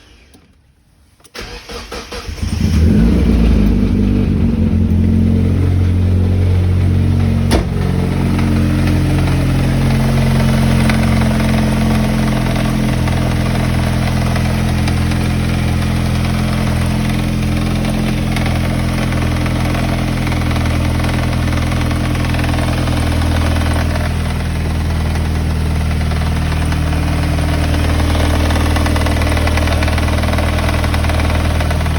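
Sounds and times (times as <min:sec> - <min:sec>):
car engine cranking and idling: 0:00.0 - 0:31.9.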